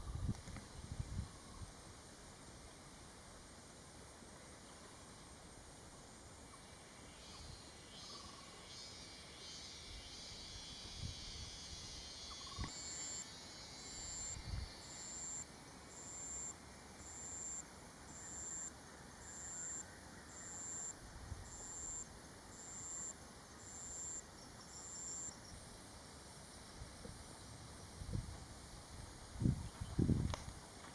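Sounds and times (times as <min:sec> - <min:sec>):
insects hissing chorus: 0:00.0 - 0:30.9
high-pitched pulsing insect call: 0:04.5 - 0:30.6.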